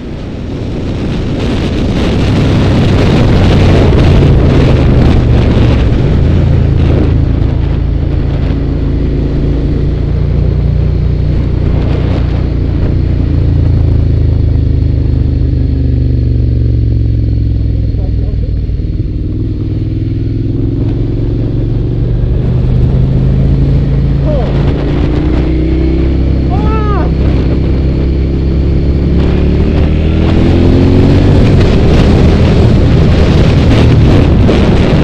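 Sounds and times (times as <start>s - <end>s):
motorcycle engine drone: 0.0s - 35.0s
wind noise on microphone: 0.0s - 35.0s.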